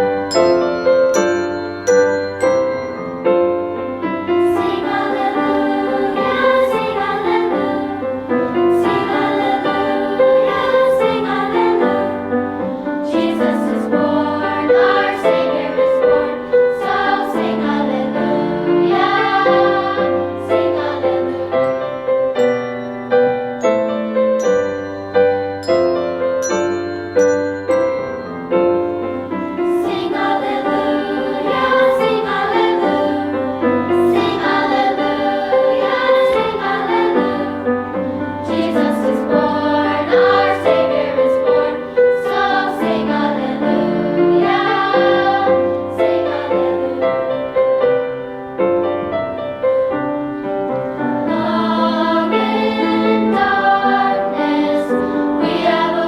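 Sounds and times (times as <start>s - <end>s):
choir singing: 0.0s - 23.7s, 26.1s - 56.0s
piano playing: 0.0s - 56.0s.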